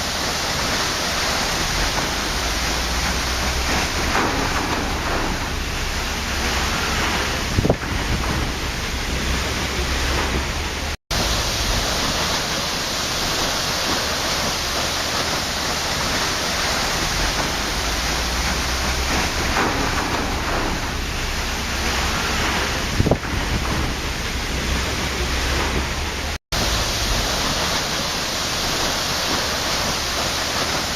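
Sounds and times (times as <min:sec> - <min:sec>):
waterfall roaring: 0:00.0 - 0:30.9.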